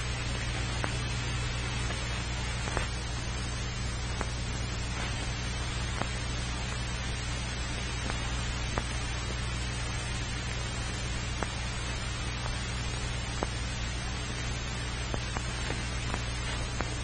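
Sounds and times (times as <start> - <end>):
film hiss: 0.0 - 17.0
mains hum: 0.0 - 17.0.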